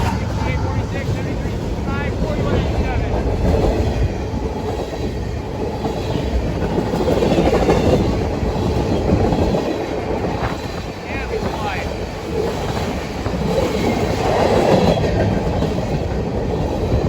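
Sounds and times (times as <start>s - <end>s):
train cars rumbling over rails: 0.0s - 17.0s.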